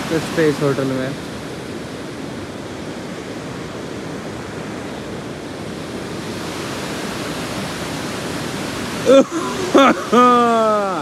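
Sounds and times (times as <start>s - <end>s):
river rushing over rocks: 0.0s - 3.0s, 3.6s - 11.0s.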